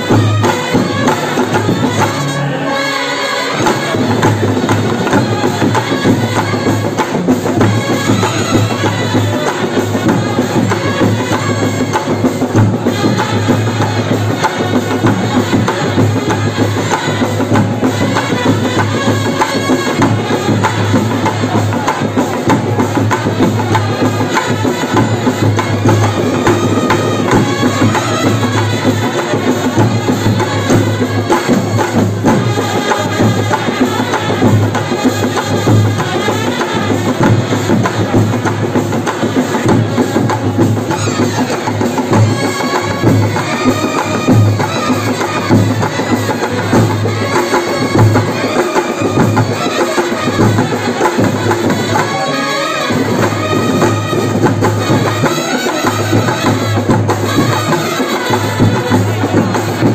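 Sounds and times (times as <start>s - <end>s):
brass horns playing a melody: 0.0s - 59.9s
drums and cymbals beat: 0.0s - 59.9s.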